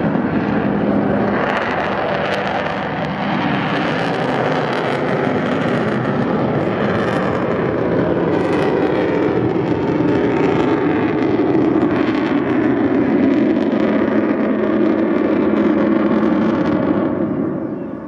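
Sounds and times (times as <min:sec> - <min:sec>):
jet aircraft roaring: 0:00.0 - 0:18.0.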